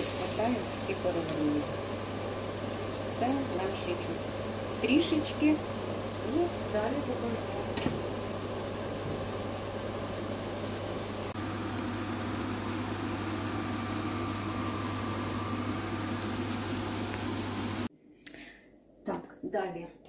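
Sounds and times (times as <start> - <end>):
pancakes sizzling in hot oil: 0.0 - 17.9.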